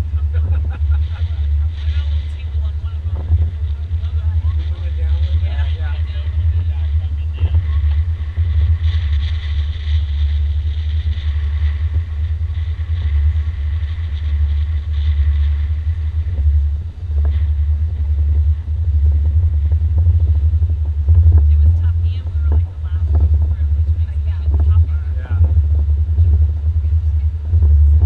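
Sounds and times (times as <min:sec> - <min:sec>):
boat engine rumble: 0:00.0 - 0:28.0
hiss of water and wind: 0:00.0 - 0:28.0.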